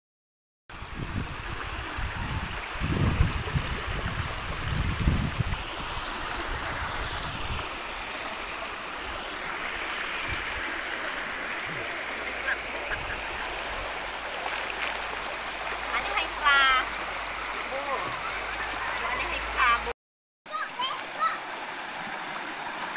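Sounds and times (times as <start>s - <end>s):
stream water rushing over rocks: 0.7s - 19.9s, 20.5s - 22.9s.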